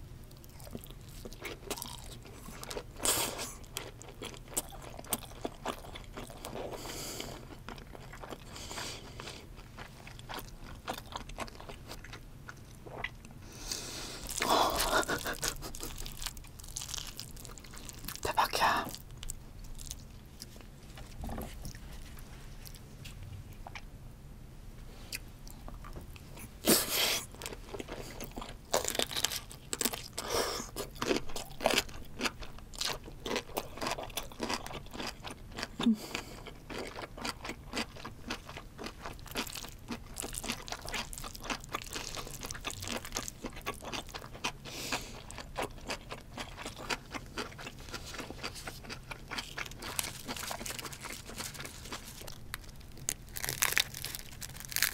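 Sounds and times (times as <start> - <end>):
person chewing crunchy food: 0.3 - 23.9, 25.0 - 54.9.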